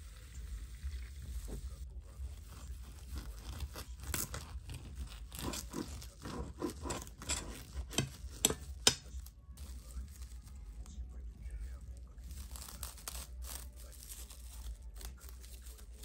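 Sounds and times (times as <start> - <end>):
cling film crinkling and tearing: 0.4 - 16.0.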